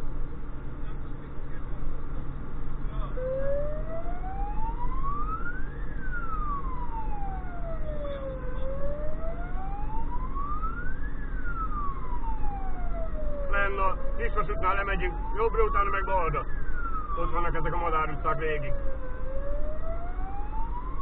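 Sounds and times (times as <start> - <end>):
truck engine and road noise: 0.0 - 21.0
fire engine wail siren: 2.4 - 21.0.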